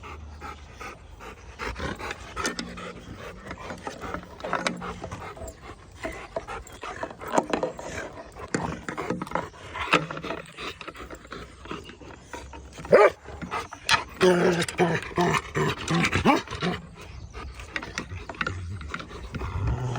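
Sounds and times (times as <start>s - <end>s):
dogs panting: 0.0s - 19.9s.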